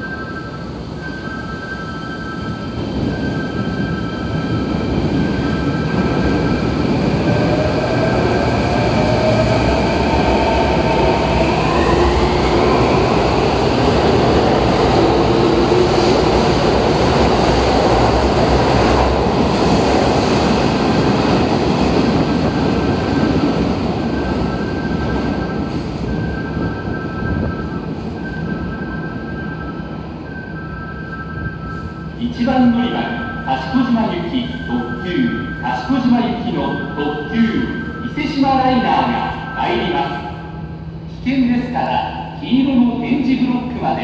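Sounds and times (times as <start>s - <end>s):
electric train passing through station: 0.0s - 44.0s.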